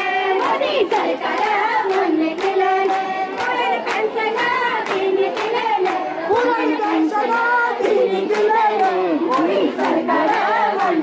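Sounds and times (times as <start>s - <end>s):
group of people singing: 0.0s - 11.0s
rhythmic hand-clapping: 0.0s - 11.0s.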